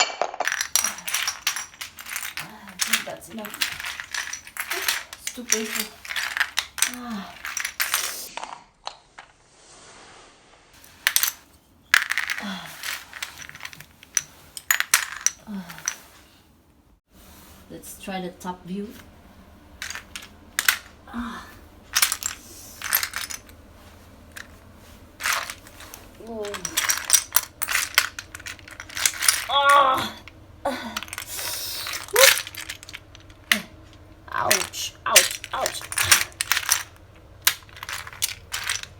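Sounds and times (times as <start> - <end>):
plastic toy pieces clattering: 0.0 - 9.3, 10.8 - 16.2, 19.8 - 21.0, 21.9 - 23.6, 25.2 - 38.9.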